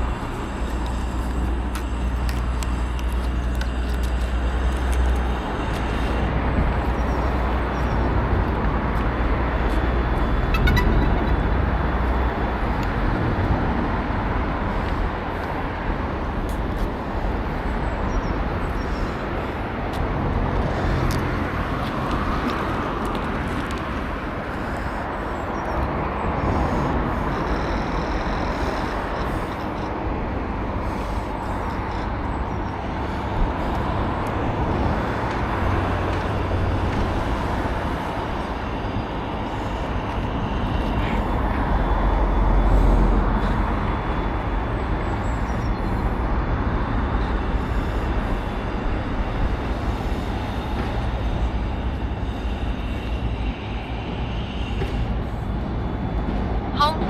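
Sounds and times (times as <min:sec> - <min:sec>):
road vehicle rumble: 0:00.0 - 0:57.0.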